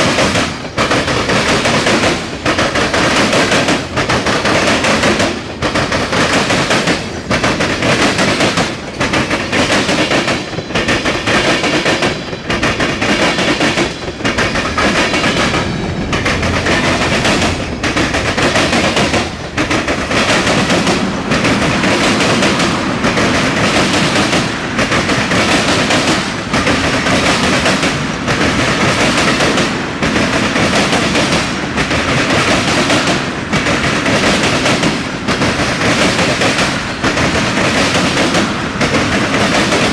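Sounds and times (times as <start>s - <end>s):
freight train wheels rattling: 0.0s - 39.9s.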